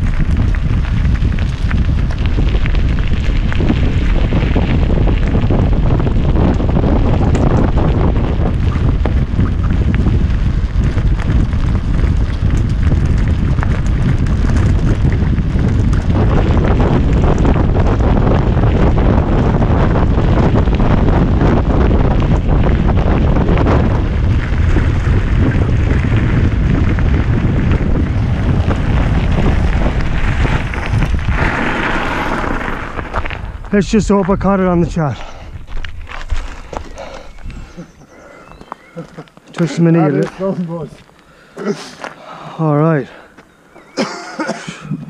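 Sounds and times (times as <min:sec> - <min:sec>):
bike rattling on gravel trail: 0:00.0 - 0:41.4
wind buffeting microphone: 0:00.0 - 0:45.0.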